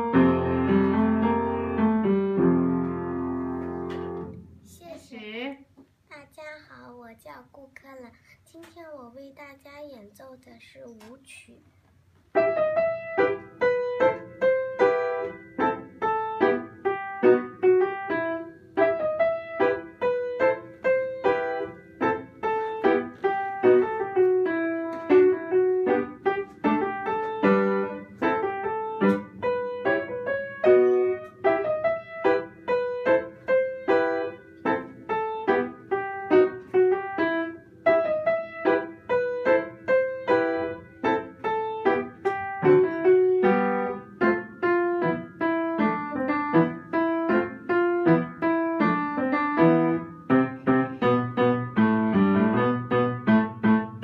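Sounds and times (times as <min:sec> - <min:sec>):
solo piano piece: 0:00.0 - 0:04.6, 0:12.3 - 0:54.0.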